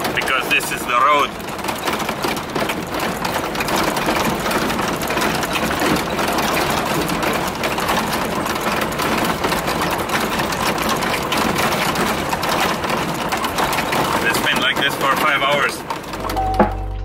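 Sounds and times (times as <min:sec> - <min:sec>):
car body rattling and knocking: 0:00.0 - 0:17.0
car engine noise: 0:00.0 - 0:17.0.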